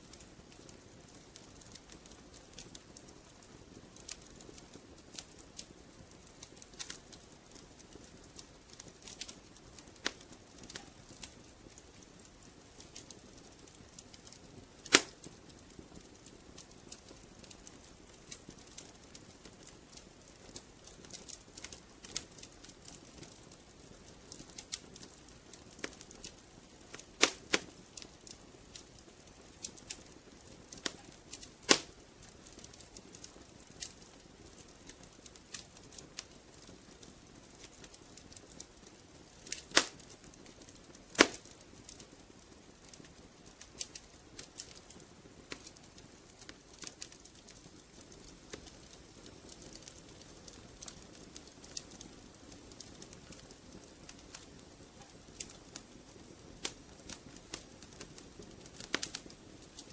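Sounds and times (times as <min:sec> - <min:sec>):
faint hiss: 0:00.0 - 0:59.9
wood fire crackling: 0:00.0 - 0:59.9
sharp pops from fire: 0:00.1 - 0:59.9.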